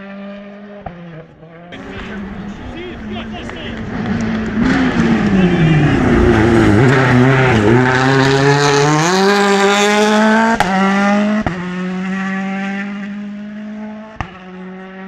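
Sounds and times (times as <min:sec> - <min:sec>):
rally car engine at full throttle: 0:00.0 - 0:15.0.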